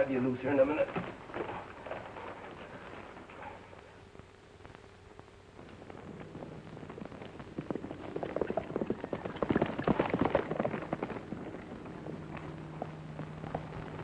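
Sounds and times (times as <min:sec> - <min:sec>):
horses galloping: 0:00.0 - 0:04.2, 0:05.6 - 0:14.0.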